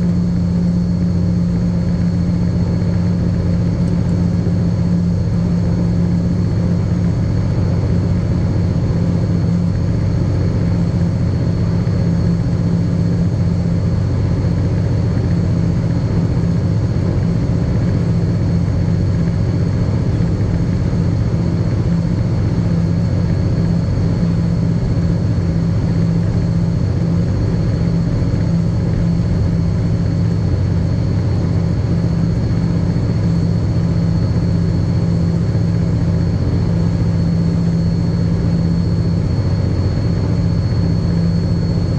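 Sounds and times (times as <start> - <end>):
diesel locomotive engine running: 0.0 - 41.9.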